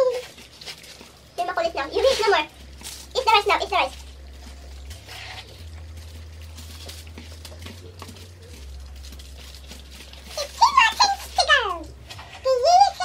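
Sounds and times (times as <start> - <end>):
foil rustle: 0.0 - 13.0
steady low hum: 0.0 - 13.0
chewing: 0.1 - 12.4
fingers picking food from foil: 0.1 - 12.4.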